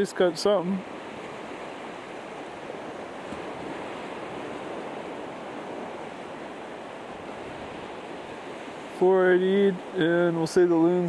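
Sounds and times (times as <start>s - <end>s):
surf washing along shore: 0.0s - 11.0s.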